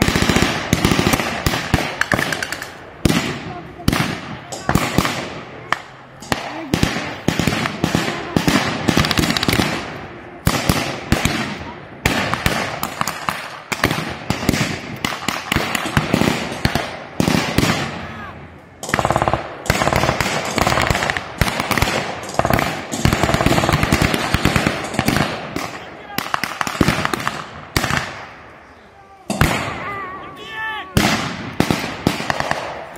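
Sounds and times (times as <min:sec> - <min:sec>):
rapid gunfire volleys: 0:00.0 - 0:18.0, 0:18.8 - 0:28.4, 0:31.0 - 0:32.9.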